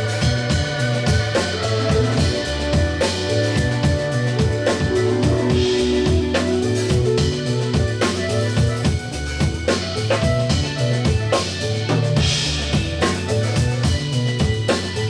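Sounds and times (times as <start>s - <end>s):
drum kit beat: 0.0s - 15.0s
live band playing: 0.0s - 15.0s.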